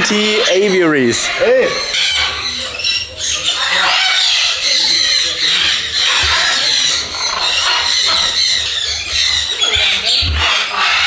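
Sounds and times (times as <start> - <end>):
parrots screeching and squawking: 0.0 - 11.0.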